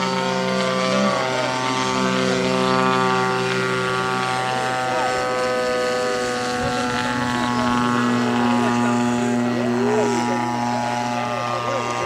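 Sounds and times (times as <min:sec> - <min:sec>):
model aeroplane engine drone: 0:00.0 - 0:12.0.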